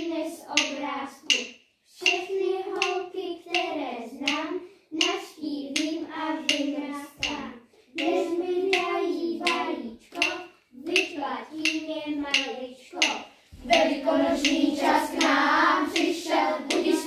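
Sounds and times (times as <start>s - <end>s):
hand claps: 0.0s - 4.4s, 5.0s - 17.0s
children singing: 0.0s - 17.0s.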